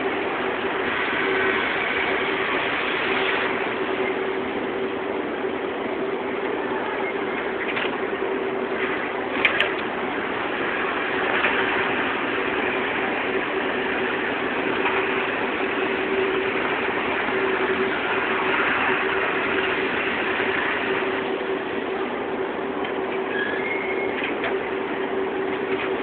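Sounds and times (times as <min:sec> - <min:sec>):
constant hum: 0:00.0 - 0:26.0
machine mechanical whir: 0:00.0 - 0:26.0.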